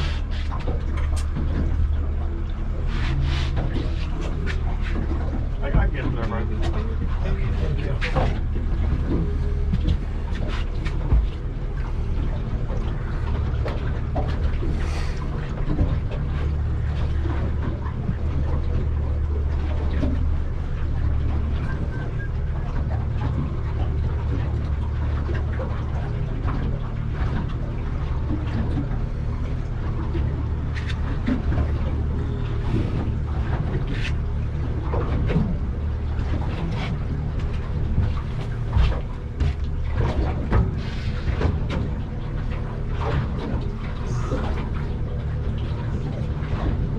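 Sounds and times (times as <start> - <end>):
light knocks and clatter: 0.0 - 20.4, 21.0 - 46.9
boat engine running: 0.0 - 46.9.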